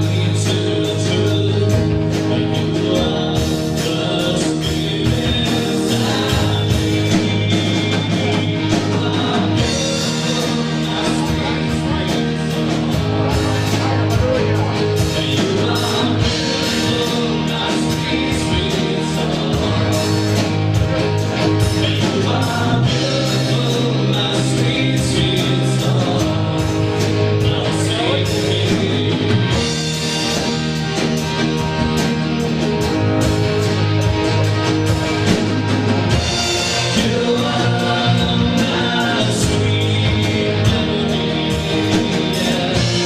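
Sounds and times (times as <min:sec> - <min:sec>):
person singing: 0:00.0 - 0:30.6, 0:36.1 - 0:43.0
drum kit: 0:00.0 - 0:43.0
electric guitar: 0:00.0 - 0:43.0
keyboard: 0:00.0 - 0:43.0
strummed acoustic guitar: 0:00.0 - 0:43.0.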